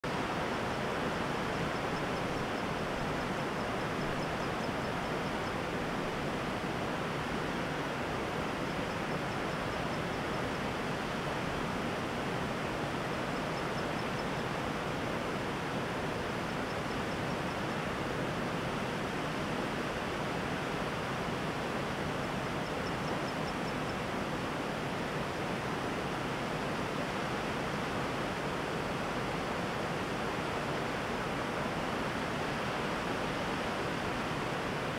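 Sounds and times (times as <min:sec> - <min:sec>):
river rushing over rock: 0:00.1 - 0:34.9.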